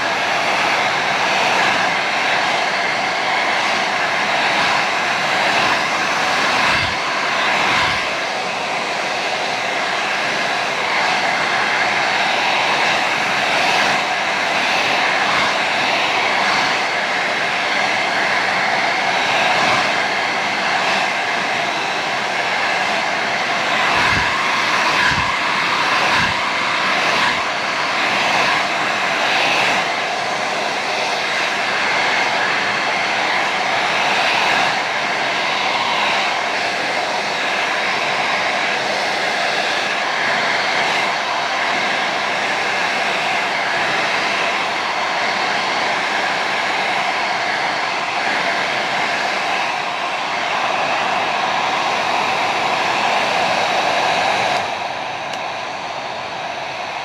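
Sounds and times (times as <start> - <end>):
hair dryer blowing: 0.0 - 57.0.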